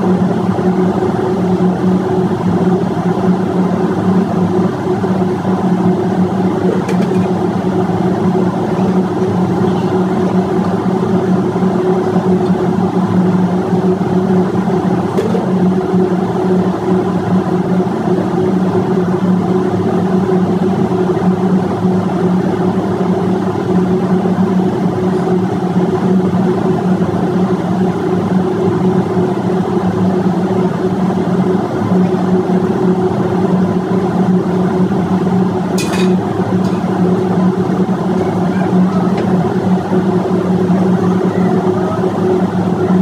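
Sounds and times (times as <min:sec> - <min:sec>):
machinery droning: 0:00.0 - 0:43.0.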